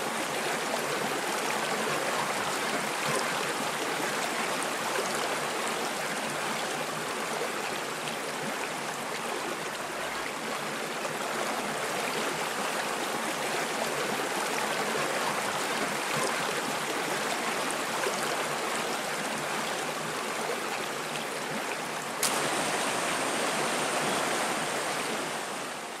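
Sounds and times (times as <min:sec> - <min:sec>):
stream flowing over rocks: 0:00.0 - 0:26.0.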